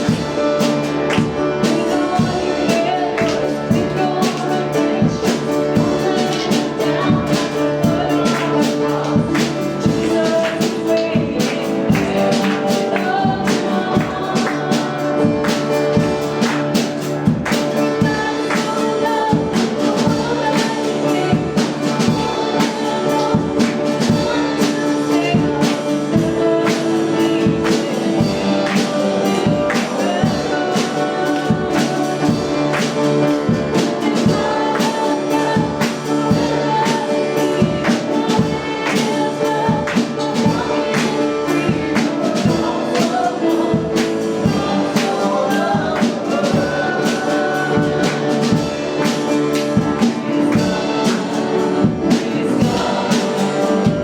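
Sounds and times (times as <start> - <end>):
person singing: 0.0 - 54.0
piano accompaniment: 0.0 - 54.0.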